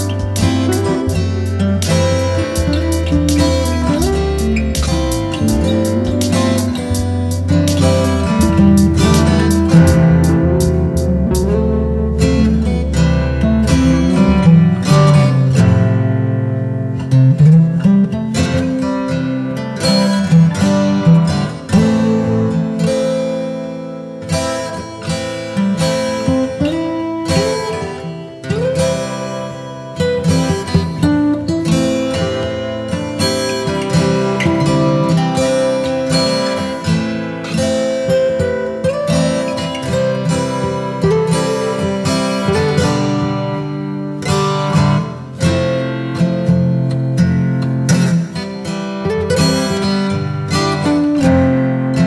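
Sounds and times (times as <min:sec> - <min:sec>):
acoustic guitar playing: 0:00.0 - 0:52.0.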